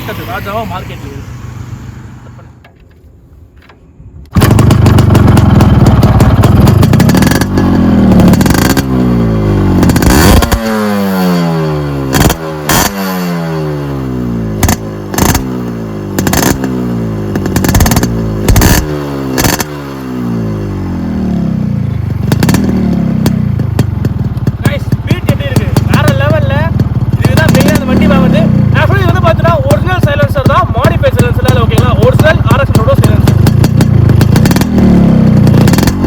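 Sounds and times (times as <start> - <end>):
motorcycle engine revving: 0.0 - 2.6, 4.3 - 36.0.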